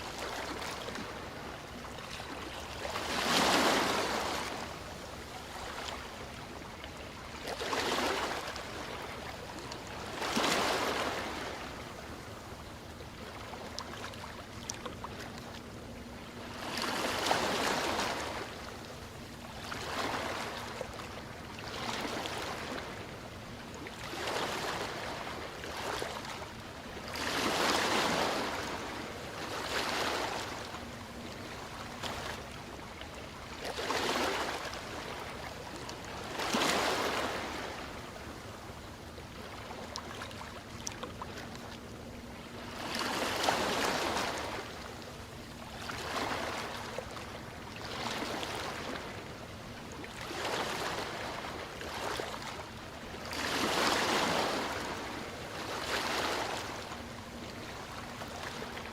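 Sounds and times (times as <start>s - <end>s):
ocean waves on shore: 0.0s - 58.9s.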